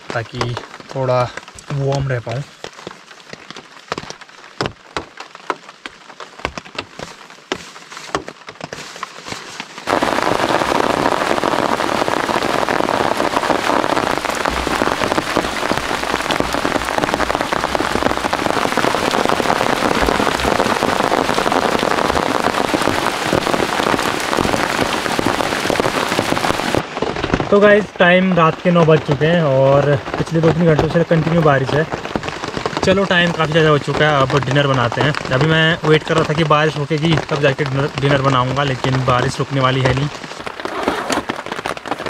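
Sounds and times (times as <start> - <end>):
heavy rain on a tent: 0.0 - 42.0
raindrops hitting tent fabric: 0.0 - 42.0.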